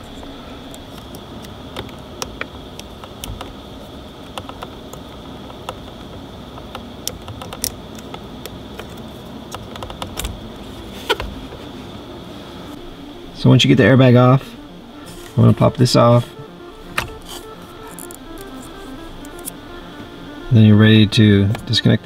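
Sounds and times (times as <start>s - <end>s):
faint background hum: 0.0s - 22.0s.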